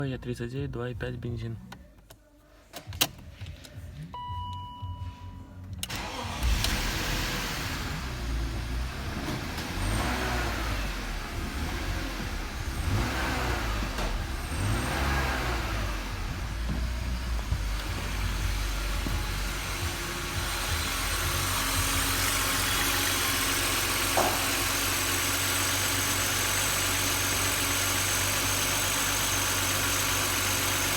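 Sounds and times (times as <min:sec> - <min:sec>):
car engine starting and revving: 0:05.8 - 0:30.9
car engine idling: 0:05.9 - 0:30.9.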